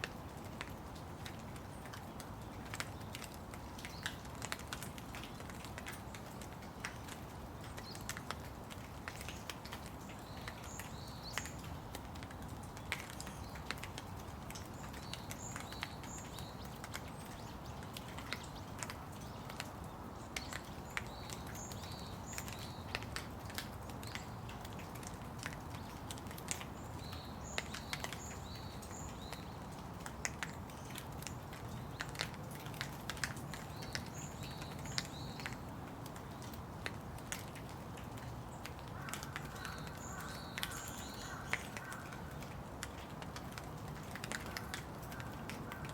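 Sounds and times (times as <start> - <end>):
raindrops ticking on surfaces: 0.0 - 45.9
steady rain: 0.0 - 45.9.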